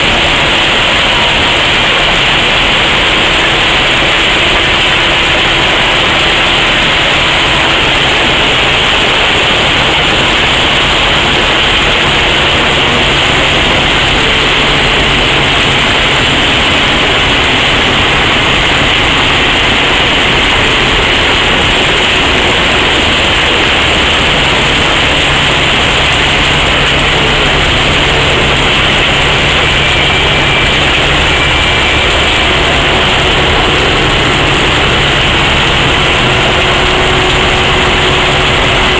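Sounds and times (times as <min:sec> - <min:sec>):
engine humming low: 0:00.0 - 0:38.9.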